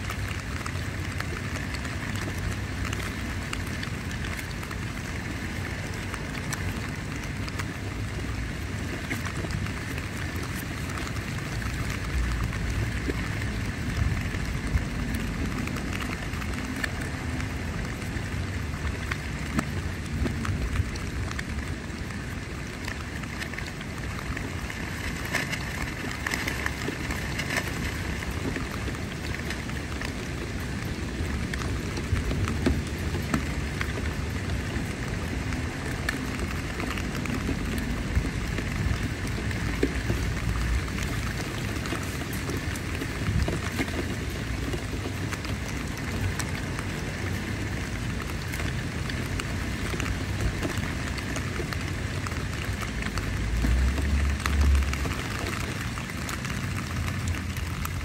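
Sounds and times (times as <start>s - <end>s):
rain on tent fabric: 0.0s - 58.0s.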